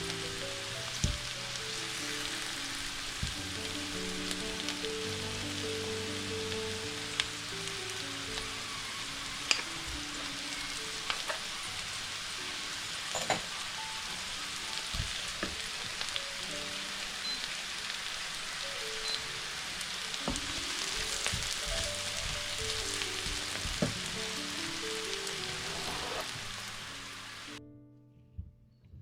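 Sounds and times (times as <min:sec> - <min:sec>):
food sizzling in a pan: 0:00.0 - 0:27.6
soft background music: 0:00.0 - 0:29.0.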